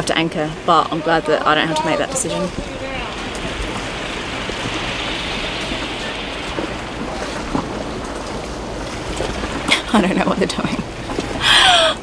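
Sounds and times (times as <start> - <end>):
sea noise: 0.0 - 12.0
wind: 0.0 - 12.0.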